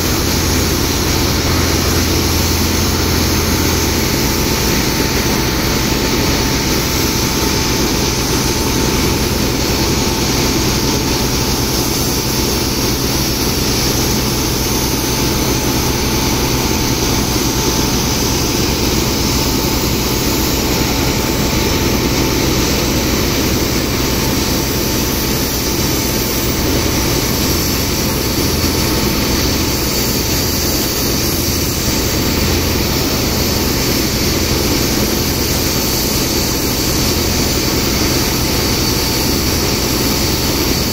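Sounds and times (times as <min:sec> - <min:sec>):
engine droning: 0:00.0 - 0:36.0.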